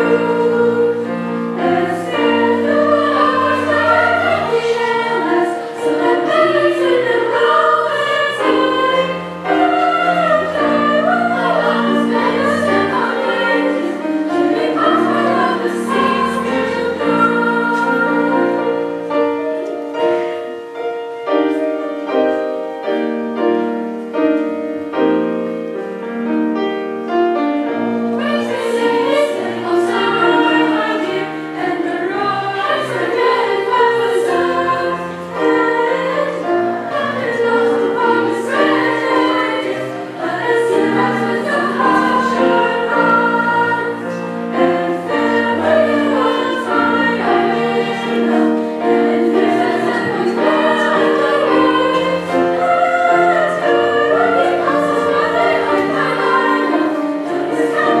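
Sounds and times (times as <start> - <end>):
school choir singing: 0.0 - 24.0, 27.7 - 58.0.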